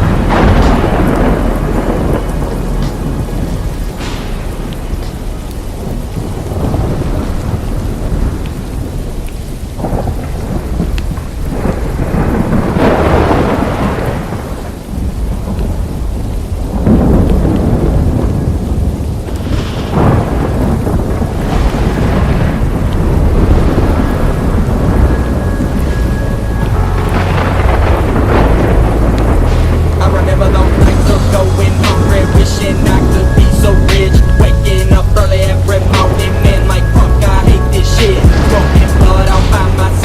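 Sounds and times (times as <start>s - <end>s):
rain falling: 0.0s - 40.0s
thunder rolling: 0.0s - 40.0s.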